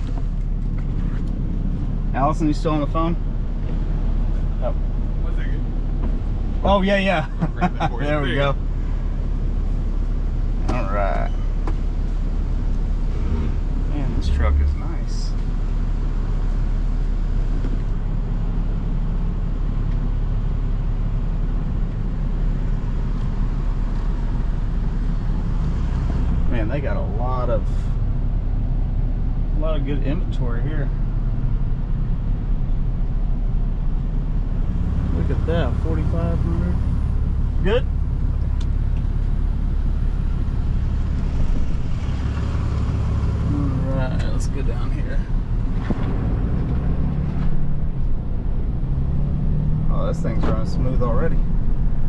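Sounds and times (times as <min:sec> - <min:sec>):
pickup truck engine rumble: 0:00.0 - 0:52.0
tyres on road: 0:00.0 - 0:52.0.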